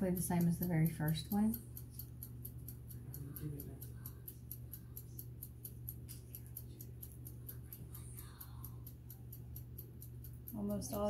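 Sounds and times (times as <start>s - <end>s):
low steady hum: 0.0s - 11.0s
rapid faint ticking: 0.0s - 11.0s.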